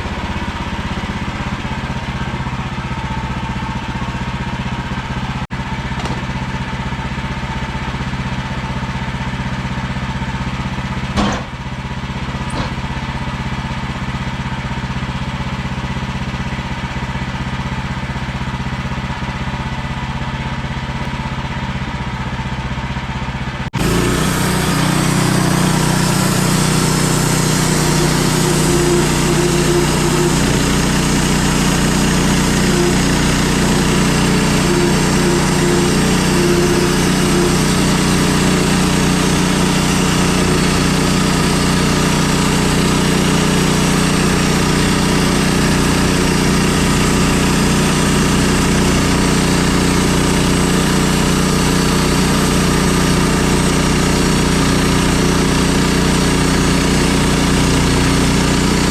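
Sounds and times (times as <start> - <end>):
engine knock: 0.0 - 58.9
engine running: 0.0 - 58.9.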